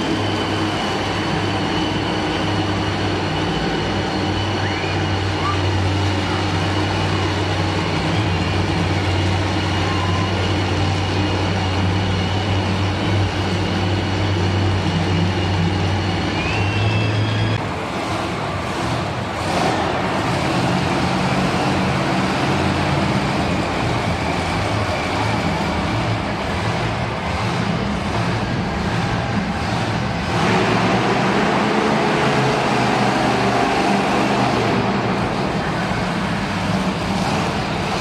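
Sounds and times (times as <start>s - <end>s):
monster truck engine running: 0.0s - 38.0s.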